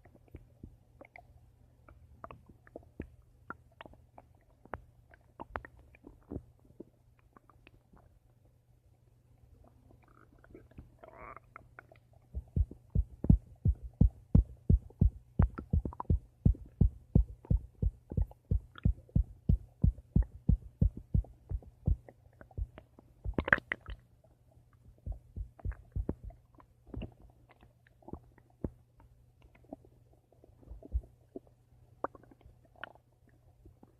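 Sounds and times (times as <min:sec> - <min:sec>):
stomach gurgling: 0:00.0 - 0:08.4, 0:09.4 - 0:33.9
faint steady hum: 0:00.0 - 0:33.9.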